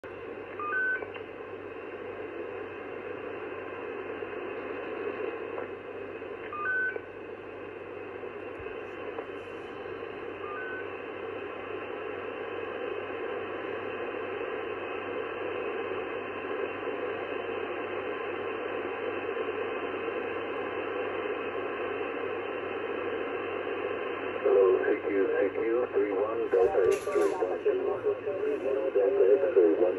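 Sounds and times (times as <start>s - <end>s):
radio band noise hiss: 1.2s - 6.5s, 7.2s - 29.9s.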